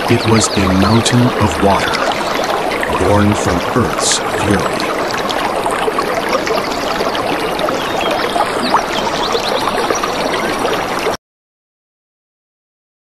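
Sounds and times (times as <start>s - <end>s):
trickling water bubbling: 0.0s - 11.2s.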